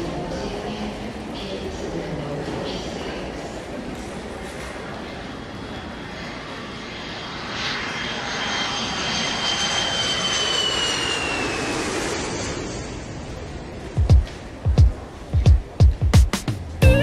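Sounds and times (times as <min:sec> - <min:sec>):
jet airplane passing overhead: 0:00.0 - 0:15.4.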